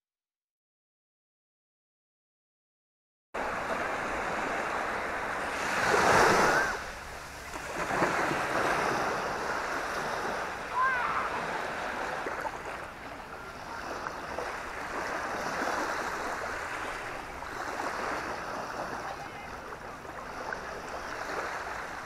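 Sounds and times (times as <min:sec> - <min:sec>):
small waves washing on sand: 0:03.4 - 0:22.0.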